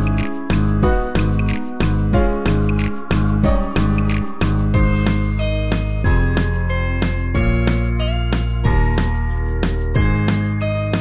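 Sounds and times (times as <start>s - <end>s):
held low notes: 0.0s - 10.6s.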